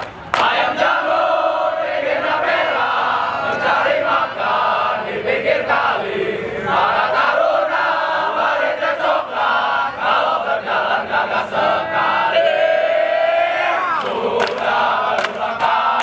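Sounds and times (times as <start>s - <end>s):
group chanting and shouting: 0.2s - 16.0s.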